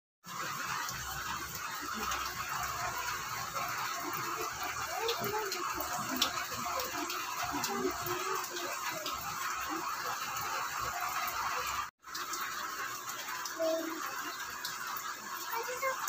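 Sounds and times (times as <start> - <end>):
steady rain falling: 0.2 - 16.0
water dripping and splattering: 0.2 - 16.0.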